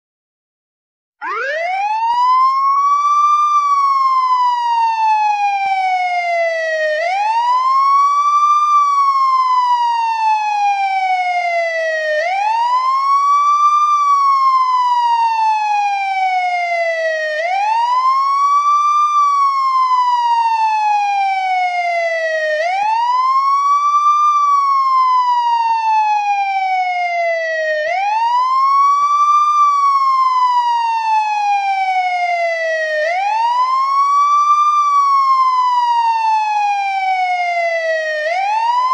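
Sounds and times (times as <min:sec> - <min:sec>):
police siren wailing: 0:01.2 - 0:38.9.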